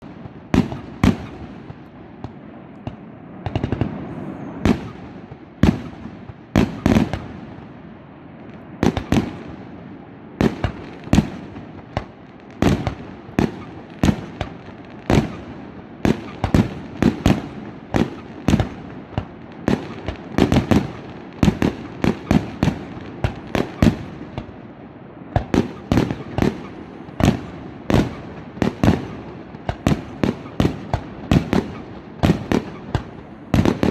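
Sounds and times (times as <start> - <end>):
fireworks bangs: 0.0 - 33.9.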